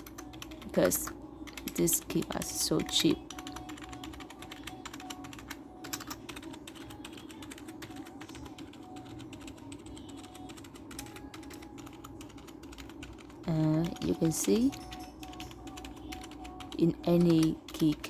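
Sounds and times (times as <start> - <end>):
keypad keys clicking: 0.0 - 18.0
steady low hum: 0.0 - 18.0.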